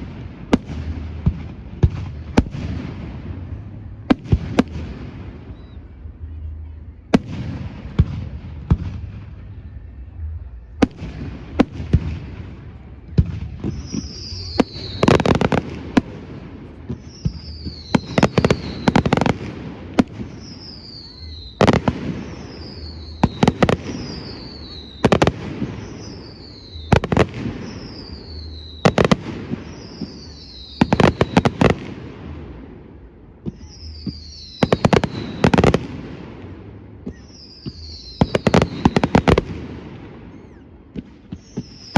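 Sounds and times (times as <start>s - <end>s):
firework bangs: 0.0s - 6.0s, 10.8s - 41.9s.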